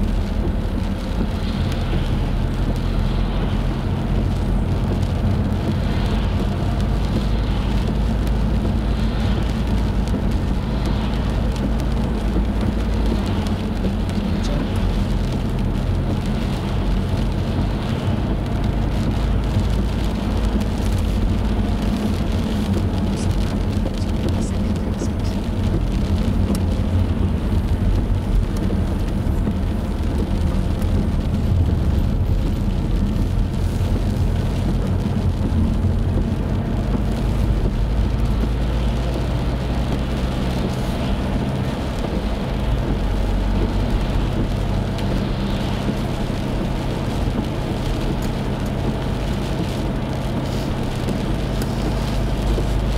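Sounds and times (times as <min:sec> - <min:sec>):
car engine and road drone: 0:00.0 - 0:52.9
rain on car: 0:00.0 - 0:52.9
tyres hissing on wet road: 0:00.0 - 0:52.9.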